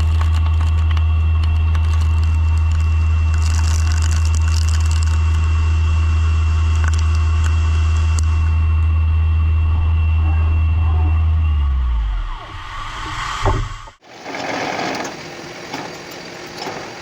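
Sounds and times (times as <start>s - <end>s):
machine tool hum and whine: 0.0s - 17.0s.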